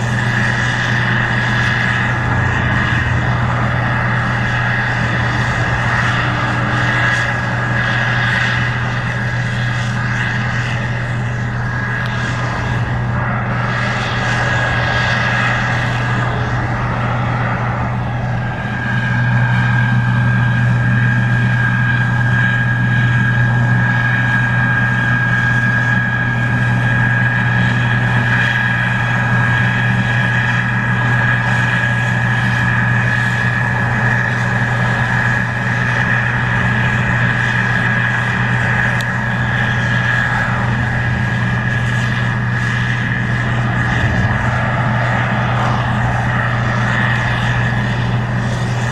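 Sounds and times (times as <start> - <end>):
combine engine drone: 0.0 - 48.9
high machine whine: 0.0 - 48.9.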